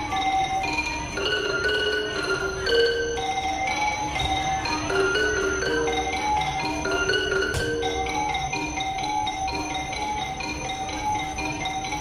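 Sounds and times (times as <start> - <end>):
xylophone playing quick melody: 0.2 - 12.0.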